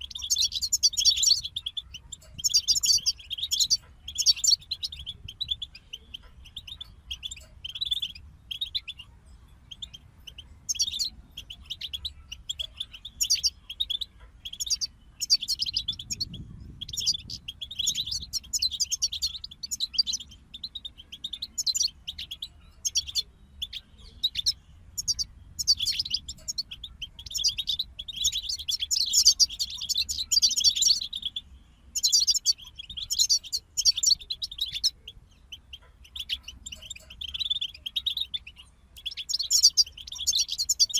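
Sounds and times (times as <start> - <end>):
birds twittering: 0.0 - 40.9.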